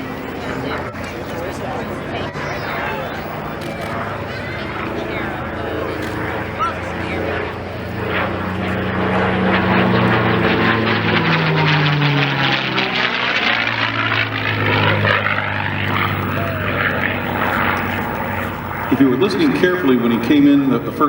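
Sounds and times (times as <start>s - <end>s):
propeller plane engine passing overhead: 0.0s - 21.0s.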